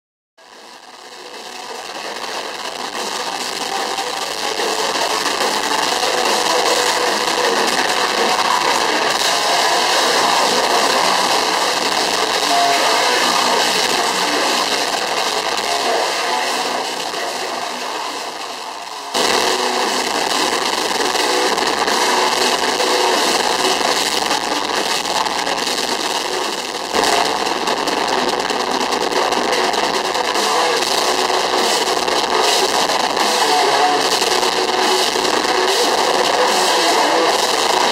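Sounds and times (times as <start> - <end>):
metal band playing live: 0.5 - 37.9.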